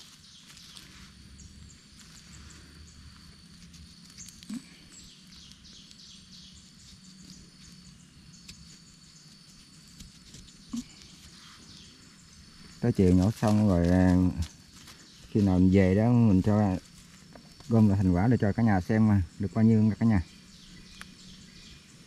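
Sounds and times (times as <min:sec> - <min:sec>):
bird chirps: 0:00.0 - 0:22.0
insect drone: 0:00.0 - 0:22.0.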